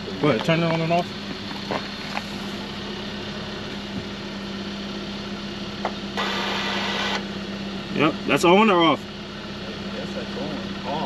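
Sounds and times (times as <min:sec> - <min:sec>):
brake motor whir: 0:00.0 - 0:11.0
car engine idling: 0:00.0 - 0:11.0.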